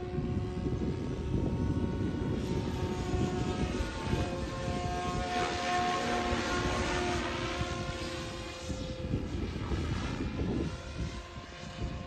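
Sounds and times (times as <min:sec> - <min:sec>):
rc helicopter motor and rotor whine: 0:00.0 - 0:12.0.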